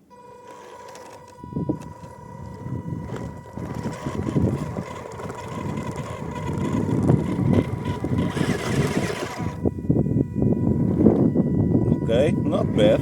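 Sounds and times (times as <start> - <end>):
small electric motor and gears: 0.0 - 13.0.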